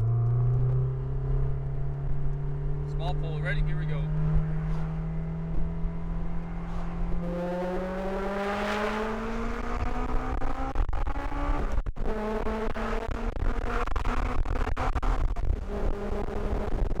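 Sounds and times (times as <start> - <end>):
car engine accelerating hard: 0.0 - 17.0
wind and road noise: 0.0 - 17.0.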